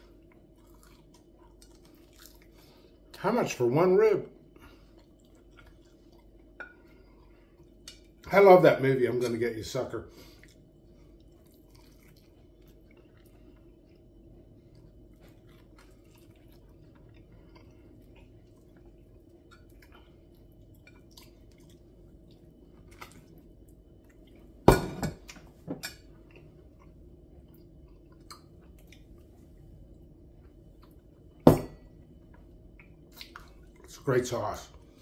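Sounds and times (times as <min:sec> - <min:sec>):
steady low hum: 0:00.0 - 0:35.0
chewing and mouth sounds: 0:00.1 - 0:03.2, 0:04.5 - 0:08.3, 0:10.2 - 0:24.6, 0:26.0 - 0:31.4, 0:32.2 - 0:34.0.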